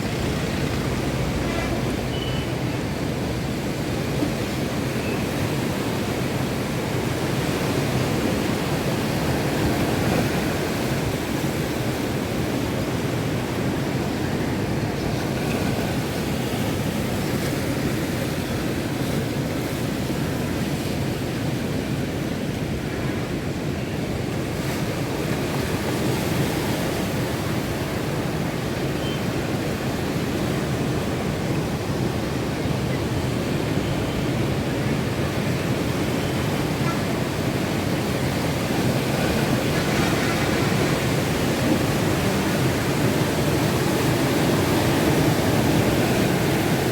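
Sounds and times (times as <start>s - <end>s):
ocean waves roaring: 0.0s - 46.9s.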